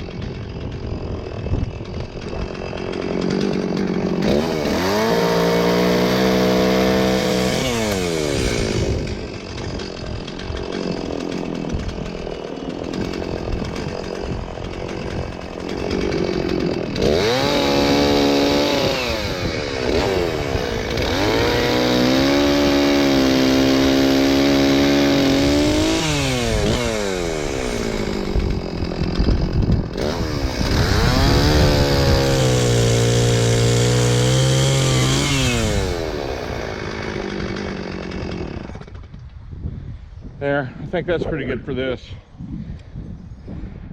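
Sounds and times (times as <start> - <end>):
chainsaw revving and idling: 0.0 - 39.4.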